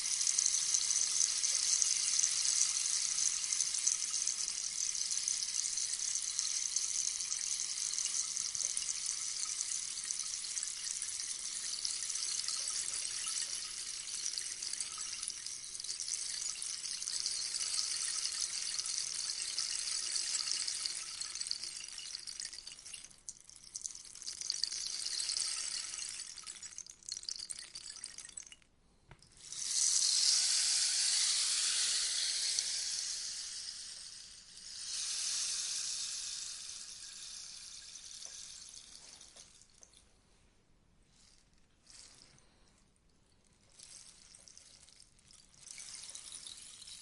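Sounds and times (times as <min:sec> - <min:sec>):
rainstick pebbles trickling: 0:00.0 - 0:40.1, 0:41.1 - 0:42.8, 0:43.4 - 0:47.0.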